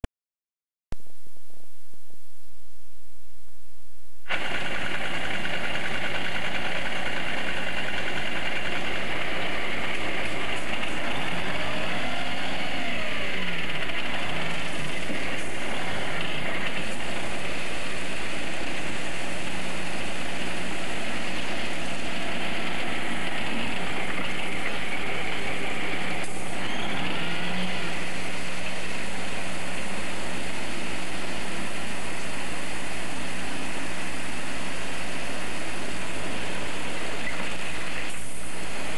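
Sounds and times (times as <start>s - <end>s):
truck engine running: 4.3s - 38.9s.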